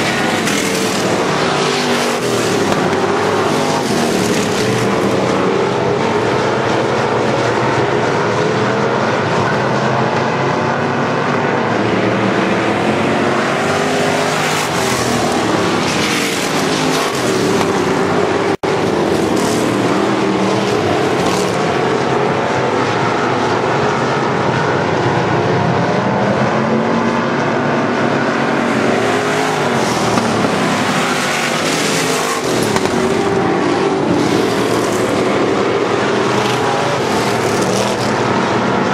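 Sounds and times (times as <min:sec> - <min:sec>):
race car engines running hard: 0:00.0 - 0:38.9.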